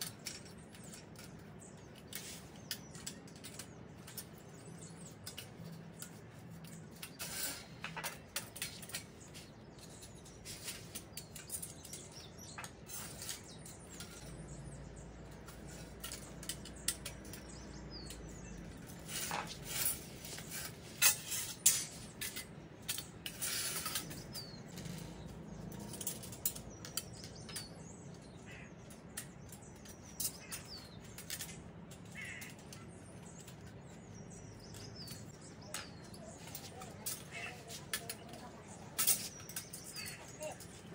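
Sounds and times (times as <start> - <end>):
metal parts clinking and knocking: 0.0 - 40.9
small birds chirping: 0.0 - 40.9.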